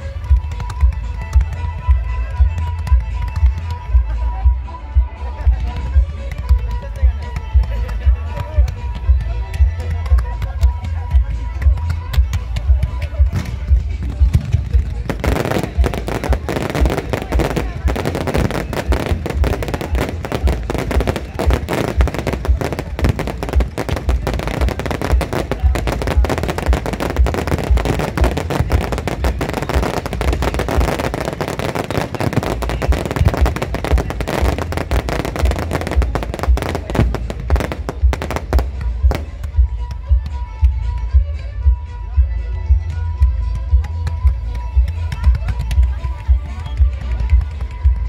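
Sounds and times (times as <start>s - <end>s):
fireworks bangs and crackling: 0.0s - 4.5s, 5.2s - 40.5s, 44.0s - 48.0s
music: 0.0s - 48.0s.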